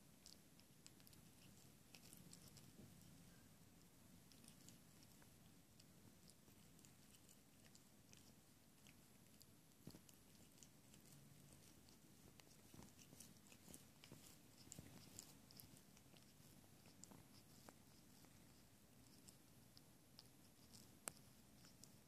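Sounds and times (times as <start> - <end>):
cat licking paw: 0.0 - 22.0.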